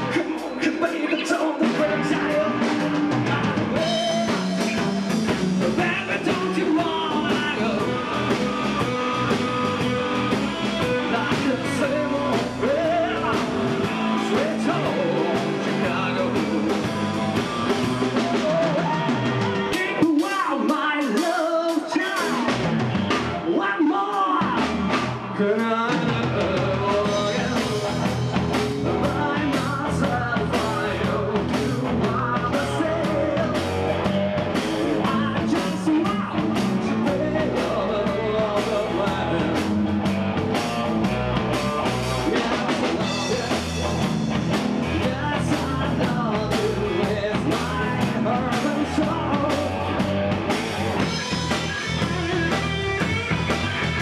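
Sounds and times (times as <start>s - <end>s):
person singing: 0.0s - 39.8s, 40.5s - 54.0s
rock band playing: 0.0s - 54.0s.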